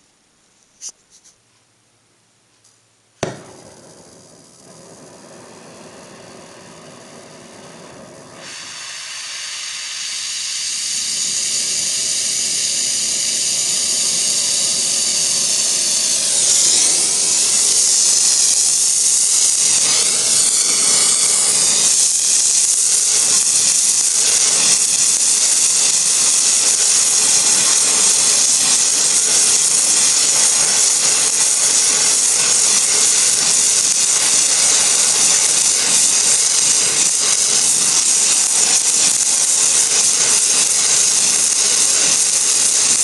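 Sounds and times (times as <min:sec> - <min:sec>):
gas torch lighting pop: 0:03.2 - 0:43.0
torch flame hissing: 0:03.2 - 0:43.0.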